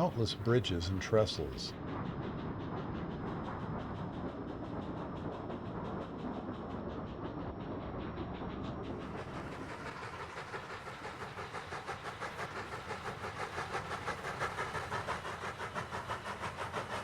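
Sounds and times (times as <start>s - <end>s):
steam hiss: 0.0s - 6.3s, 6.9s - 17.0s
steam locomotive chuffing: 0.0s - 17.0s.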